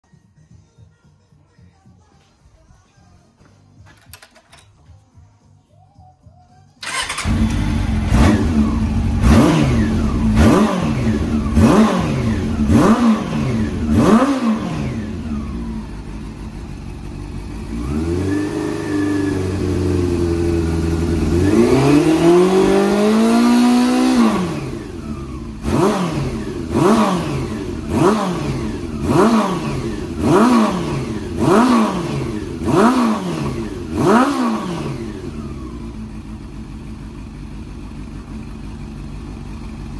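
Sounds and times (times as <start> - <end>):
motorcycle engine revving: 6.8 - 39.9.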